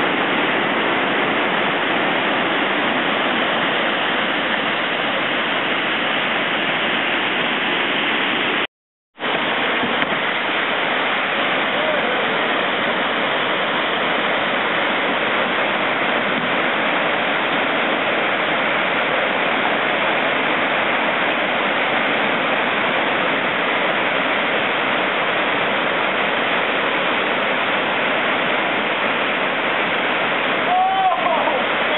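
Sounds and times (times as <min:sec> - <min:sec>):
whitewater rushing over waterfall: 0:00.0 - 0:31.9.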